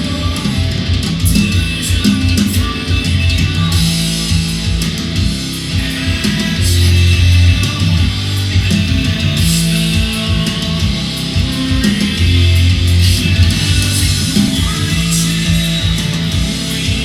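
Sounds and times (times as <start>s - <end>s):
rock music with guitar and bass: 0.0s - 17.0s.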